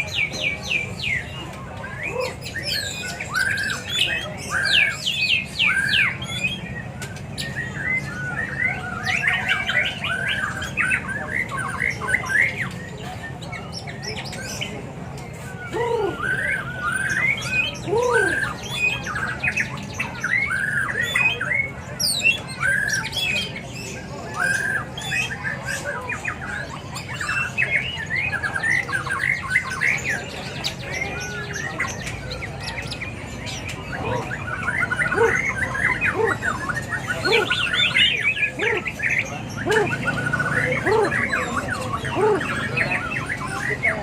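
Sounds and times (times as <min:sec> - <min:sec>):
songbirds chorus: 0:00.0 - 0:44.0.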